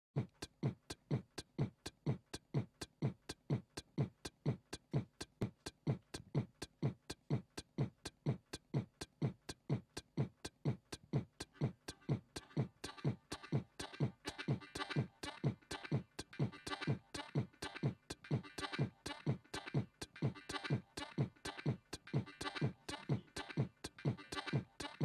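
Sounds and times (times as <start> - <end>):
beatboxing into a microphone: 0.2 - 25.0.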